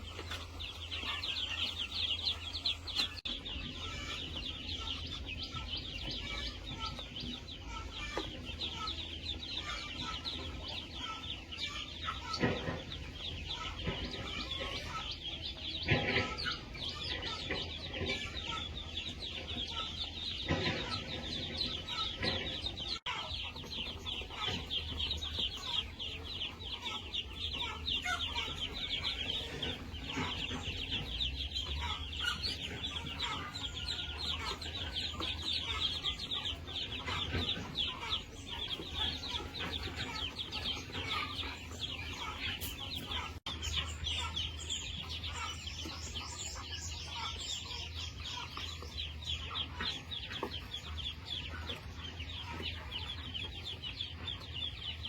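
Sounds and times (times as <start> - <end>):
chickens clucking and calling: 0.0 - 55.0.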